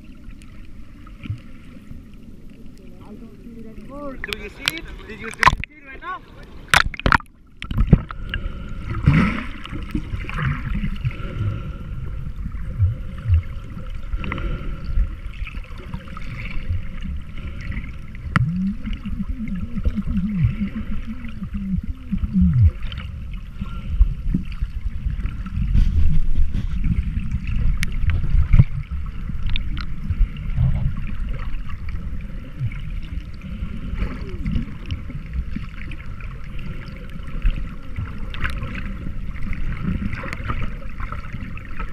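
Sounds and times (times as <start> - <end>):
muffled underwater water rumble: 0.0 - 41.9.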